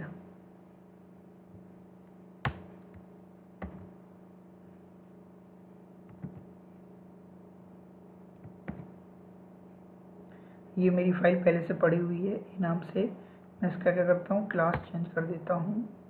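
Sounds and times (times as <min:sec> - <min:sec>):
faint low electrical hum: 0:00.0 - 0:16.0.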